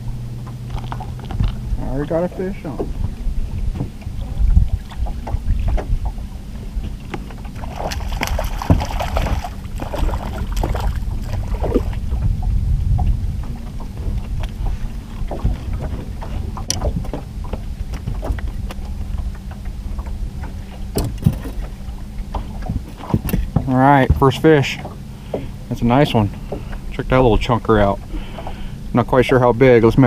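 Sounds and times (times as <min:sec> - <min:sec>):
low motor hum: 0:00.0 - 0:30.0
wind rumbling on microphone: 0:00.0 - 0:30.0.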